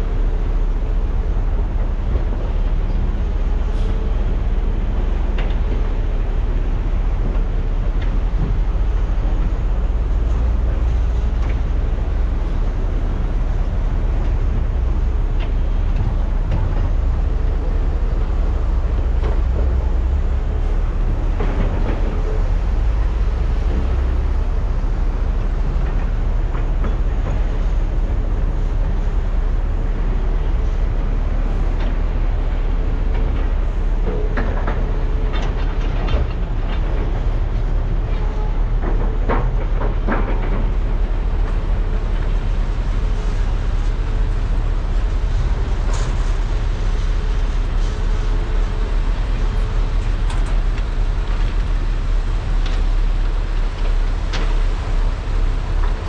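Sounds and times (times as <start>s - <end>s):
excavator diesel engines running: 0.0s - 56.0s.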